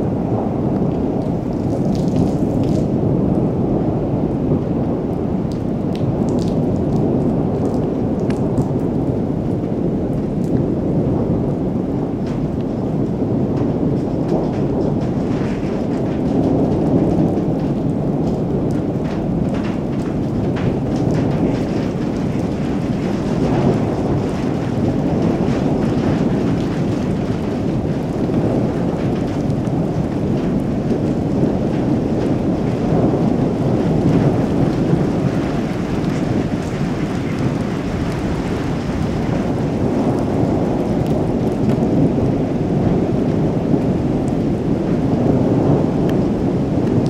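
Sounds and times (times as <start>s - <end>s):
heavy rain: 0.0s - 47.0s
raindrops tapping close by: 0.0s - 47.0s
rolling thunder: 0.0s - 47.0s.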